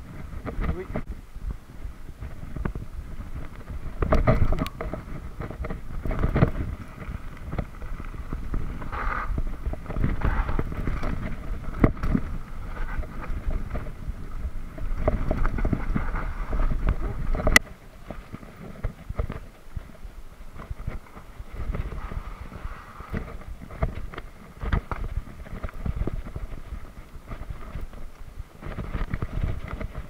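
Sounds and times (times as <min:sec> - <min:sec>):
bike rattling on bumps: 0:00.0 - 0:30.0
wind rumbling on microphone: 0:00.0 - 0:30.0.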